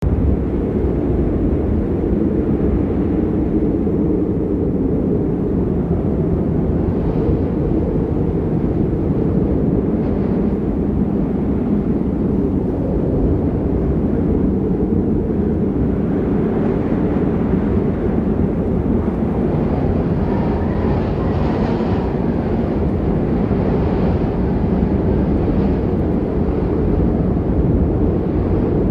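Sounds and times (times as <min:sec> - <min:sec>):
wind gusting over microphone: 0:00.0 - 0:28.9.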